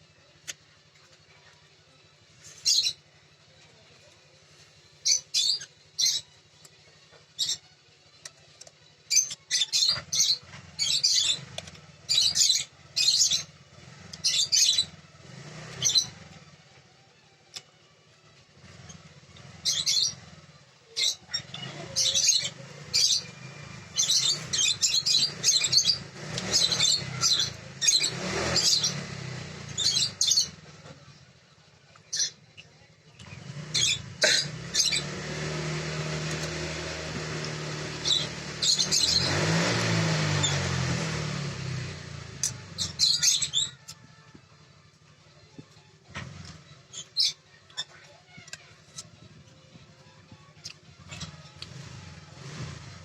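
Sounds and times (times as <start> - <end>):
small birds chirping: 0.0 - 16.4, 18.4 - 53.0.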